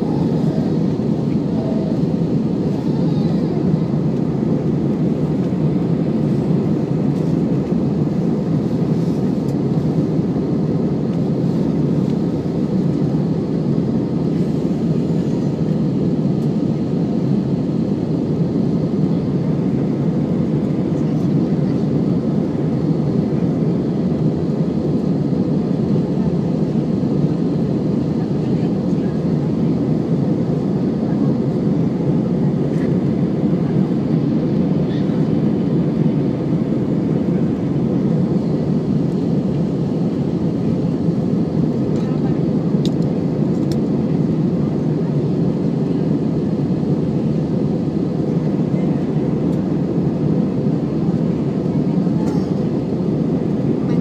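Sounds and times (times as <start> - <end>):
aircraft cabin drone: 0.0 - 54.0.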